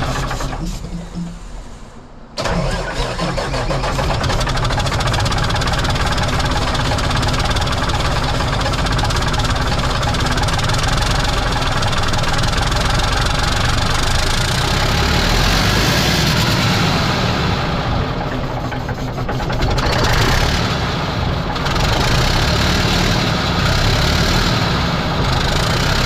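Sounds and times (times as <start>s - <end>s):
truck diesel engine cranking on starter: 0.0s - 26.0s.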